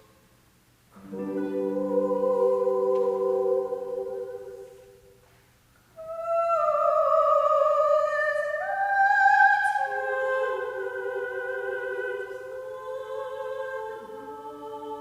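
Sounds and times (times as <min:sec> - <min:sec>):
lower vocal line: 0:01.0 - 0:04.8, 0:06.0 - 0:15.0
choir holding a chord: 0:01.0 - 0:05.0, 0:06.0 - 0:15.0
high voices singing slow melody: 0:01.0 - 0:05.2, 0:06.0 - 0:15.0.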